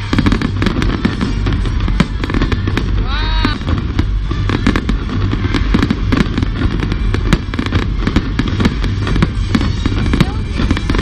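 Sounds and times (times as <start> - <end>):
fireworks cracks and pops: 0.0 - 11.0
low rumble: 0.0 - 11.0.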